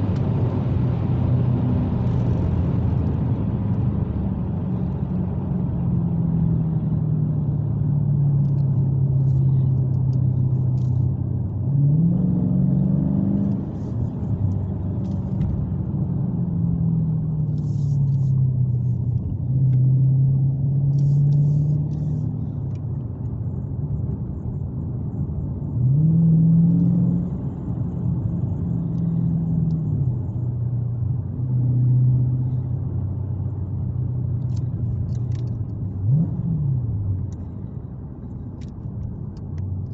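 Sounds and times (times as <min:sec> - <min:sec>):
car engine rumbling and accelerating: 0:00.0 - 0:39.9.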